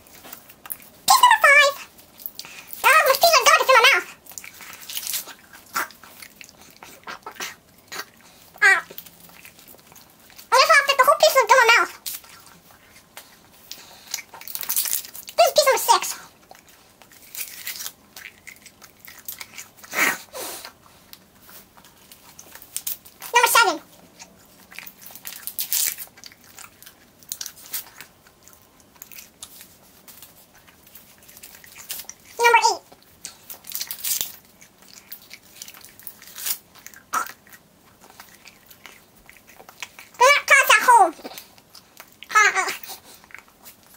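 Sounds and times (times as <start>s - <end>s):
gum chewing mouth noises: 1.8s - 3.3s, 4.0s - 10.5s, 11.9s - 15.4s, 16.0s - 40.3s, 41.1s - 43.9s.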